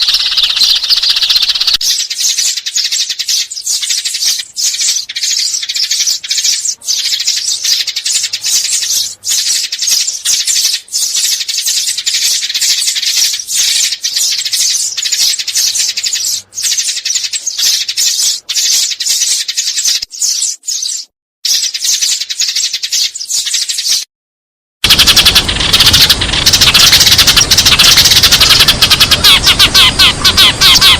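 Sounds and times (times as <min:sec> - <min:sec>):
sparrows chirping: 0:00.0 - 0:24.1, 0:24.8 - 0:30.9.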